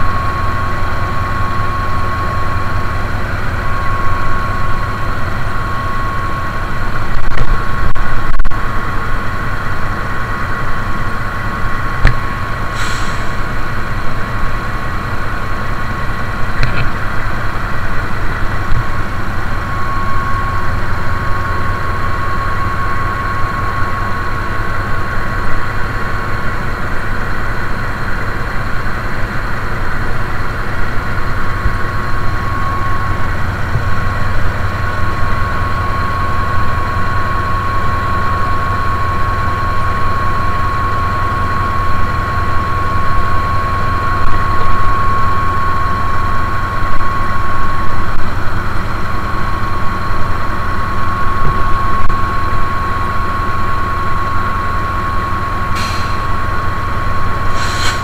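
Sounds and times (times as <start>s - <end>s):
diesel engine rumbling with whine: 0.0s - 58.0s.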